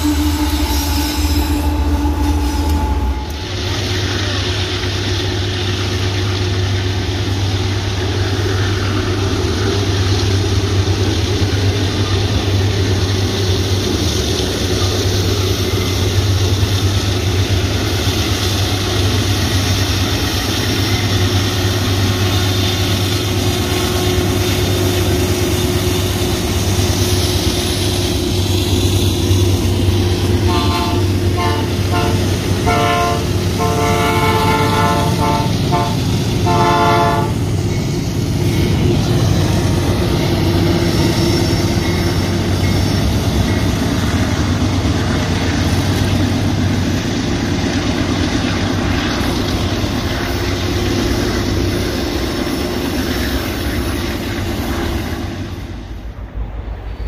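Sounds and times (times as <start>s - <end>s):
locomotive engines droning: 0.0s - 57.0s
train rumbling on rails: 0.0s - 57.0s.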